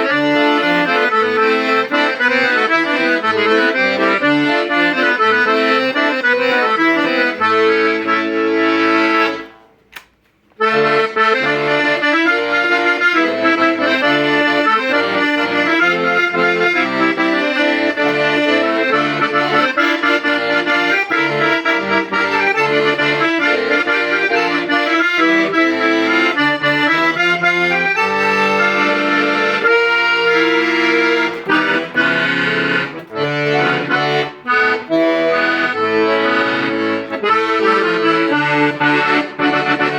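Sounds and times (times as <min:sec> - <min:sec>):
accordion playing: 0:00.0 - 0:09.8, 0:10.6 - 0:39.9.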